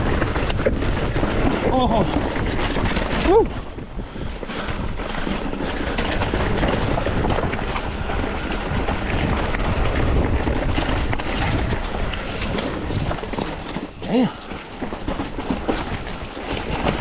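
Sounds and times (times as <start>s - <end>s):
bike clicks and rattles: 0.0s - 17.0s
bike tyres rolling over rocks: 0.0s - 17.0s
wind rush on microphone: 0.0s - 17.0s.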